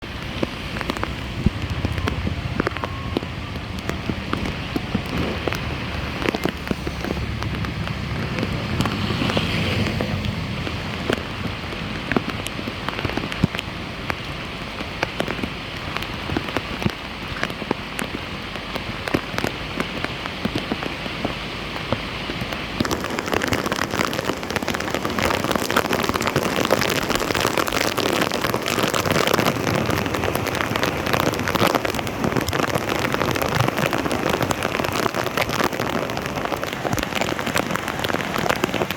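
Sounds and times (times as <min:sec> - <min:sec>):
rain patter on water: 0:00.0 - 0:38.9.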